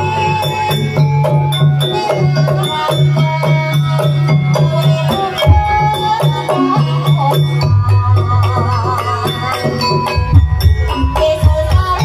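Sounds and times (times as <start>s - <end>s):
gamelan playing: 0.0s - 12.0s.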